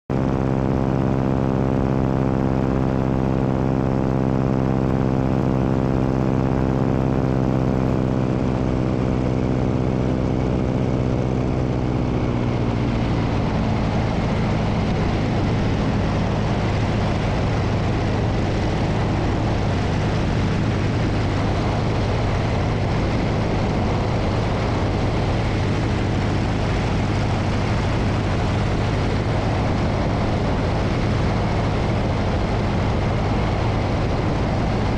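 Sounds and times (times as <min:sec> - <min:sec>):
propeller plane engine: 0:00.1 - 0:34.9
wind rushing over microphone: 0:00.1 - 0:34.9.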